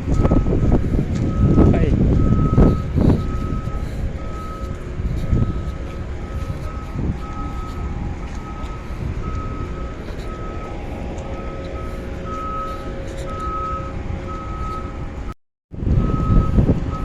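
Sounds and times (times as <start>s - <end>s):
electronic warning beeps: 0.0s - 15.1s, 16.0s - 17.0s
low machinery rumble: 0.0s - 17.0s.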